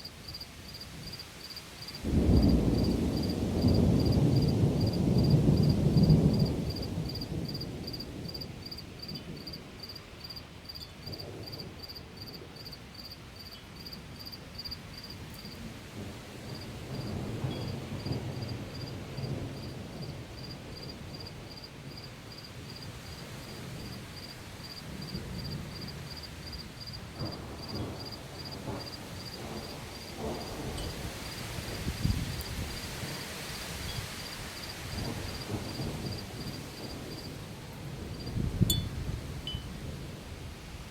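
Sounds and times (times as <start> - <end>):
insect chirping: 0.0 - 15.6, 16.5 - 32.9, 33.8 - 37.4, 38.1 - 38.9
thunder rumbling: 2.0 - 12.7, 15.0 - 40.9.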